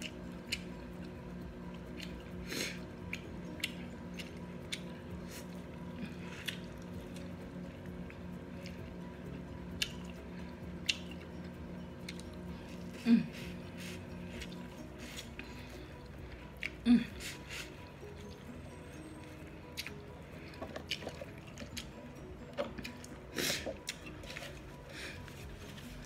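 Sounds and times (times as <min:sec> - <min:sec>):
wet chewing and smacking: 0:00.0 - 0:13.0, 0:13.8 - 0:16.8, 0:19.2 - 0:25.0
low steady hum: 0:00.0 - 0:26.0.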